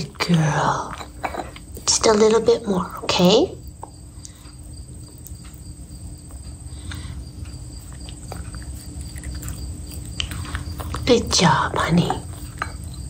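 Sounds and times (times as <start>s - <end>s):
dog licking and chewing food: 0.1s - 13.0s.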